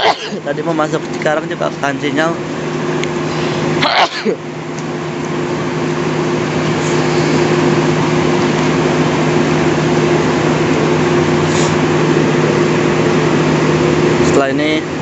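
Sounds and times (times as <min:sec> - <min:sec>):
train machinery humming: 0:00.0 - 0:15.0.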